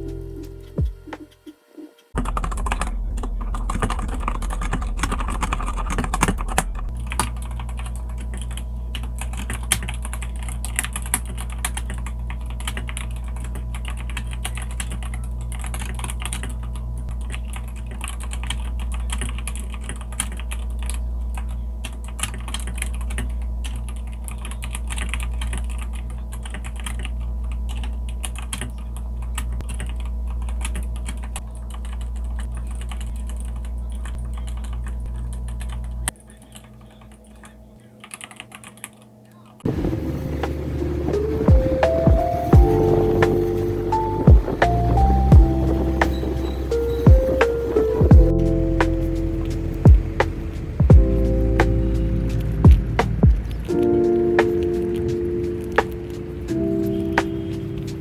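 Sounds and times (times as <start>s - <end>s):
low steady hum: 2.2s - 58.0s.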